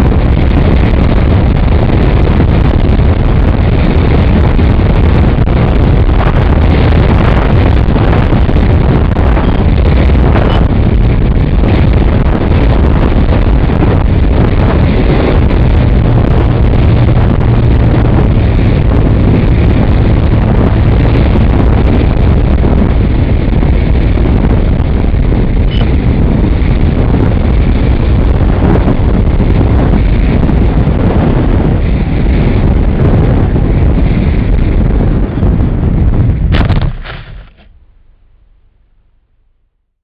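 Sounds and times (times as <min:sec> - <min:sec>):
electric motor and propeller: 0:00.0 - 0:37.7
wind buffeting microphone: 0:00.0 - 0:38.6
low steady hum: 0:00.0 - 0:40.0.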